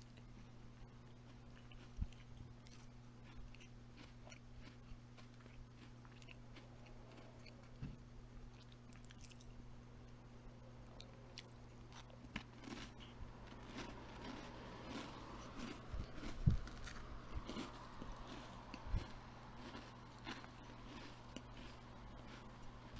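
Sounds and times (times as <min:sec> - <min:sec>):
crunchy chewing and biting: 0:00.0 - 0:07.8, 0:08.4 - 0:09.6, 0:10.8 - 0:22.9
steady low hum: 0:00.0 - 0:22.9.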